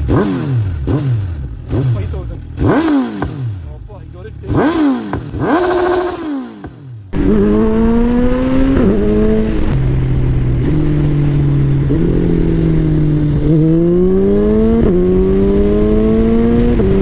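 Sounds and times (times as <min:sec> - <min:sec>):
motorcycle engine shifting gears: 0:00.0 - 0:17.0.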